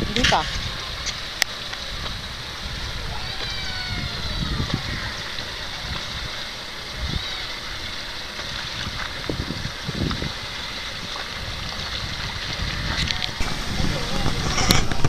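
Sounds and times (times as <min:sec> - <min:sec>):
water sloshing around wader: 0:00.0 - 0:15.0
wind buffeting microphone: 0:00.0 - 0:15.0.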